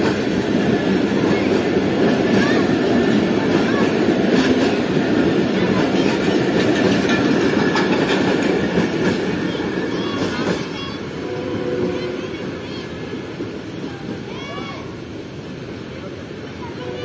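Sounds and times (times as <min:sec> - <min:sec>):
train wheels clattering on rails: 0:00.0 - 0:14.5.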